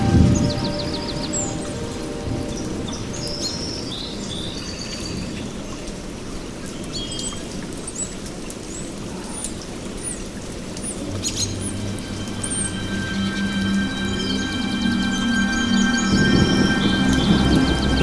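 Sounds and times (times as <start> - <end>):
low sustained music tones: 0.0 - 7.7, 10.4 - 18.0
steady rain: 0.0 - 18.0.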